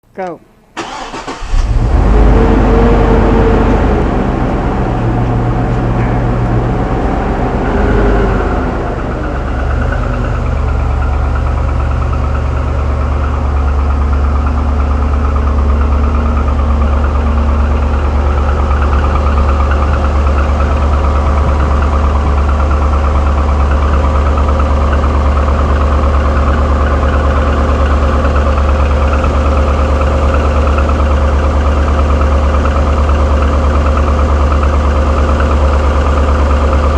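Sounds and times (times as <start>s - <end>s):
car engine idling: 0.8s - 36.9s
engine rattle: 0.8s - 36.9s.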